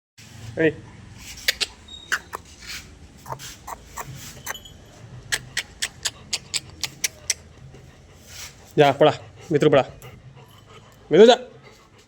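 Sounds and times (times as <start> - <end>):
dog panting: 0.8 - 12.0.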